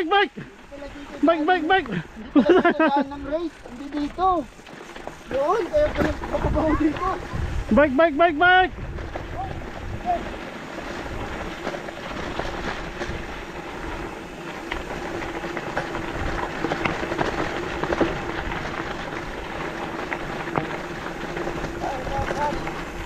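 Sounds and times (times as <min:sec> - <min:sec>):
bike rattling and clicking: 0:00.0 - 0:23.0
bike tyres rumbling on trail: 0:00.0 - 0:23.0.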